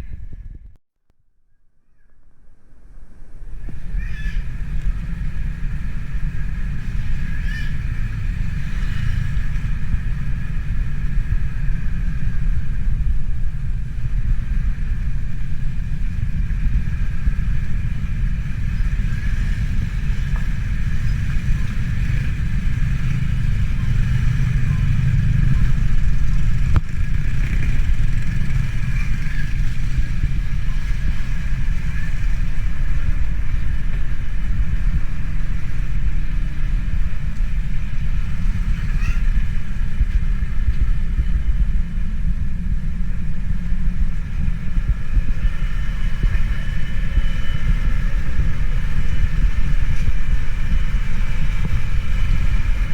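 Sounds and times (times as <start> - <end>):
vehicle engine rumbling: 2.4 - 52.9.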